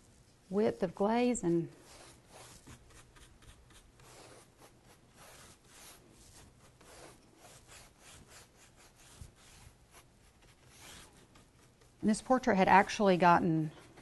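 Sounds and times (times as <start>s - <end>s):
brush strokes on board: 0.0s - 14.0s.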